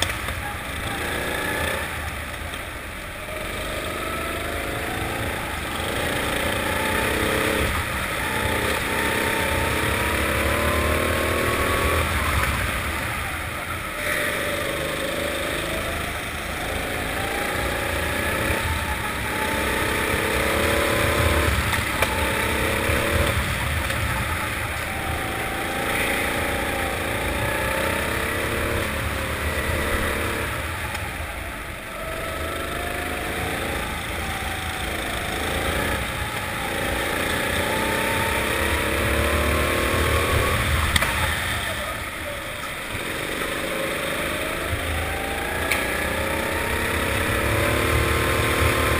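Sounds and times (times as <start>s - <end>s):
kart engine revving: 0.0s - 48.9s.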